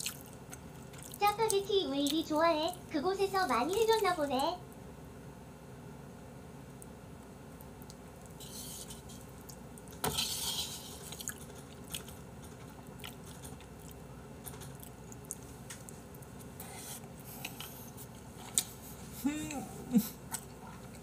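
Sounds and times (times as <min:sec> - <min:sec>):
soft wet chewing: 0:00.0 - 0:04.8, 0:06.8 - 0:21.0.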